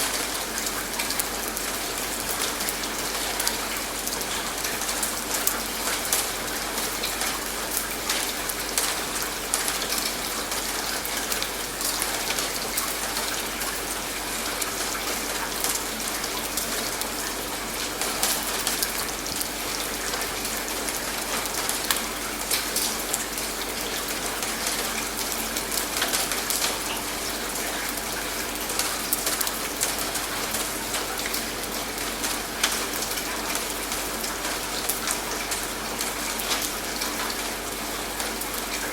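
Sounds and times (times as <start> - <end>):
raindrops hitting a surface: 0.0 - 38.9
steady rain falling: 0.0 - 38.9.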